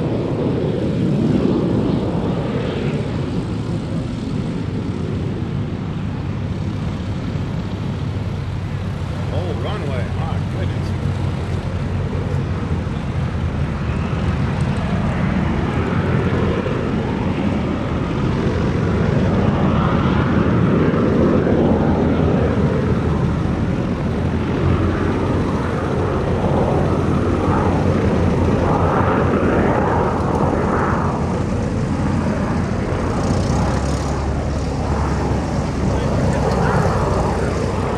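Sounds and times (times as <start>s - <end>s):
jet engine rumble: 0.0s - 37.9s.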